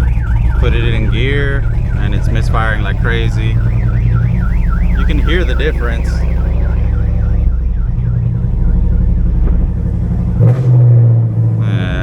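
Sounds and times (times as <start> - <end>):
car engine misfiring: 0.0 - 12.0
warbling alarm tone: 0.0 - 12.0.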